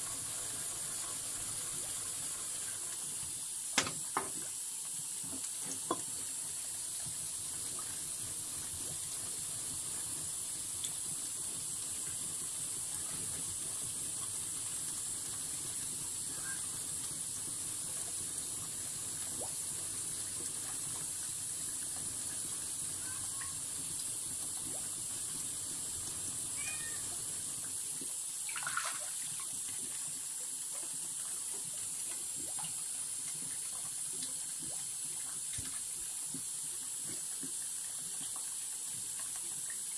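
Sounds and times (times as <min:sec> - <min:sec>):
constant hiss: 0:00.0 - 0:39.9.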